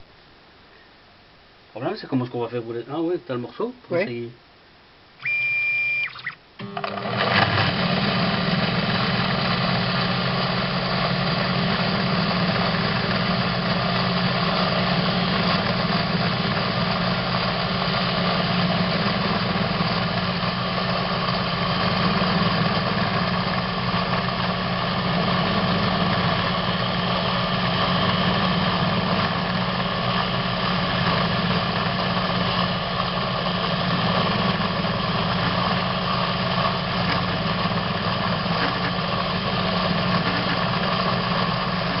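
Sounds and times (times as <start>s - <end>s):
machine motor hum with whine: 5.2s - 42.0s.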